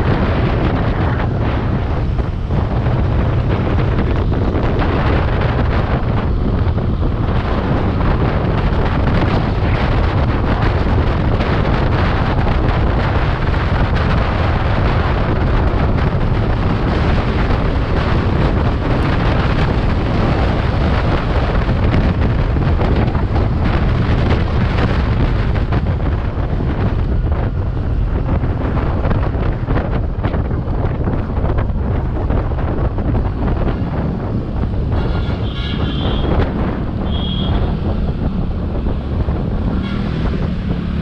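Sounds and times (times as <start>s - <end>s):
road and engine noise: 0.0s - 41.0s
wind buffeting microphone: 0.0s - 41.0s.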